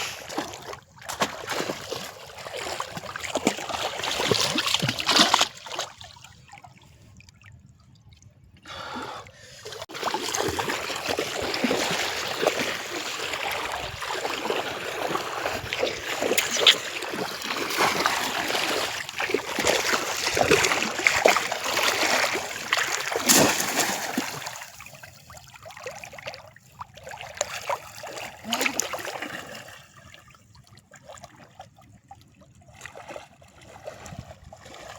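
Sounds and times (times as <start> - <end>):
people wading in water splashing: 0.0 - 9.0, 9.7 - 34.9.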